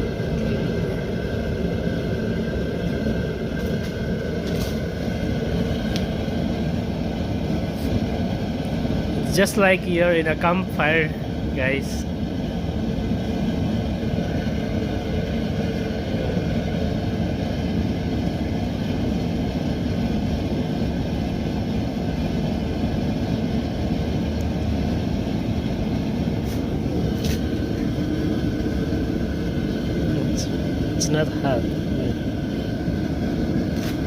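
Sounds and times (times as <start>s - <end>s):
faint hum: 0.0s - 34.0s
propane heater burner rush: 0.0s - 34.0s.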